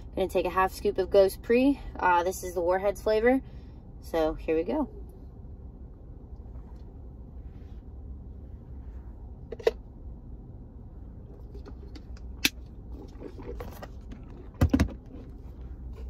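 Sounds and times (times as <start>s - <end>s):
car cabin hum: 0.0s - 16.0s.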